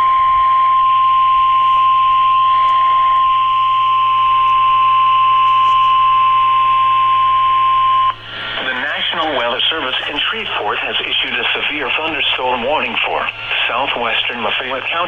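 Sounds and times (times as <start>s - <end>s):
steady alarm tone: 0.0s - 15.0s
radio hiss: 1.4s - 15.0s.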